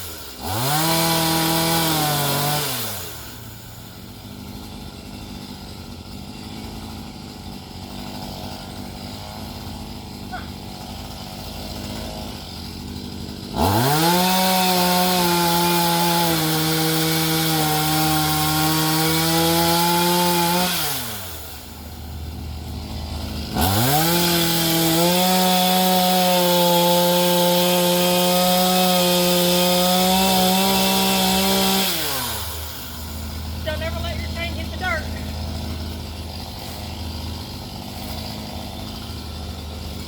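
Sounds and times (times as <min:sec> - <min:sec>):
chainsaw revving and sawing: 0:00.0 - 0:40.0.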